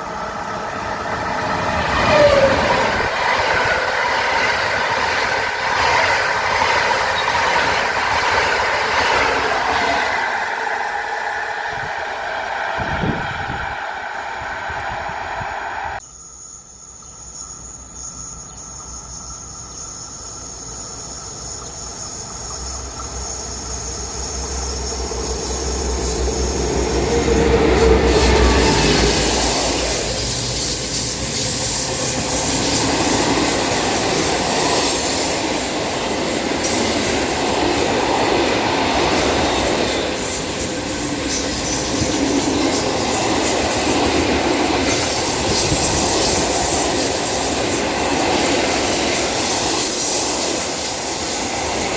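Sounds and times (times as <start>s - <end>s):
train wheel noise: 0.0s - 16.0s, 18.1s - 51.9s.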